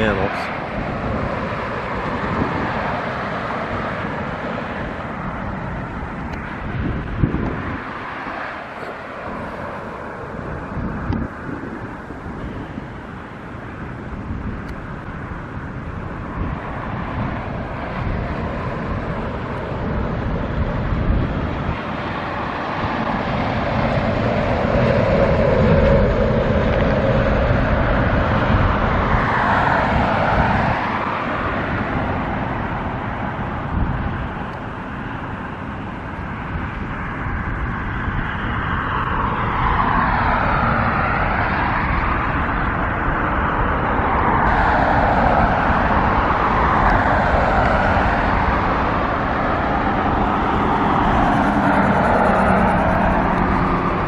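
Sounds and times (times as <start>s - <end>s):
low traffic rumble: 0.0s - 54.0s
vehicles passing by: 0.0s - 54.0s.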